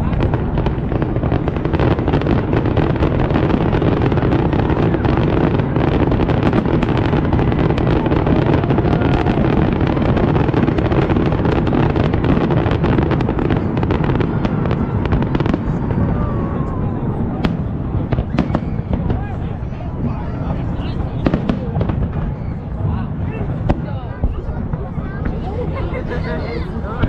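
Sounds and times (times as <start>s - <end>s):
fireworks bursts and crackles: 0.0s - 27.0s.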